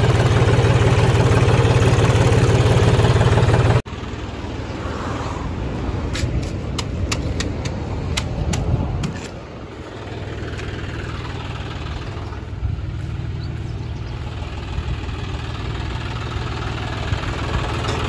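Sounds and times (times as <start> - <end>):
tractor diesel engine rumbling: 0.0 - 18.0.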